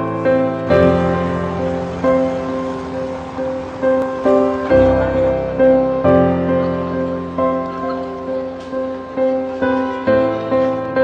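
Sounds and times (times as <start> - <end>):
sustained music chords: 0.0 - 11.0.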